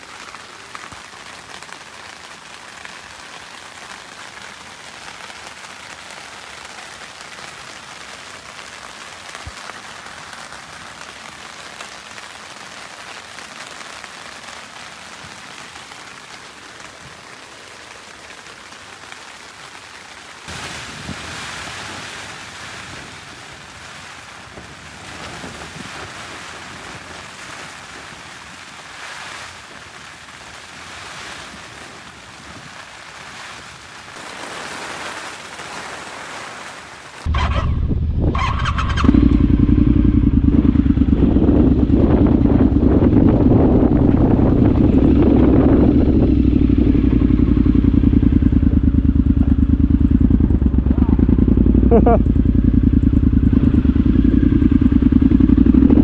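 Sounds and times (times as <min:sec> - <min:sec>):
heavy rain on a tent: 0:00.0 - 0:37.7, 0:38.3 - 0:56.0.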